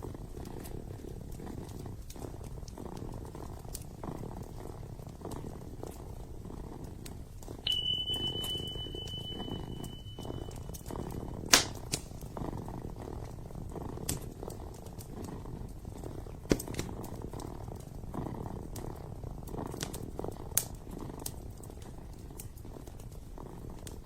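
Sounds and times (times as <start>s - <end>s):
kitten purring: 0.0s - 24.0s
wood fire crackling: 0.0s - 24.0s.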